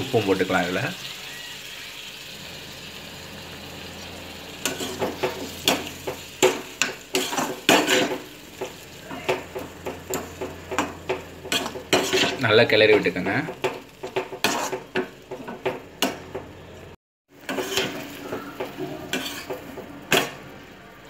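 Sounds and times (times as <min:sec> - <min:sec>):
food sizzling in a pan: 0:00.0 - 0:21.0
metal spatula scraping a pan: 0:01.0 - 0:16.7, 0:17.4 - 0:20.4.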